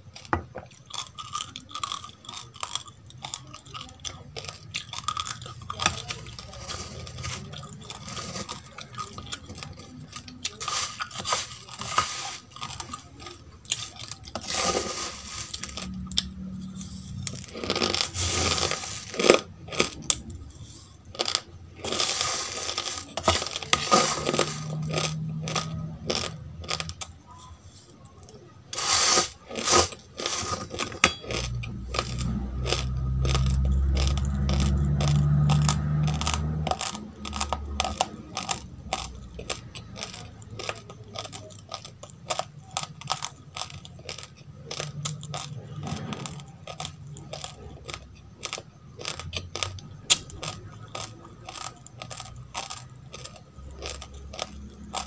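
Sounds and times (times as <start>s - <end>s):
crunching and chewing dry grains: 0.0s - 55.0s.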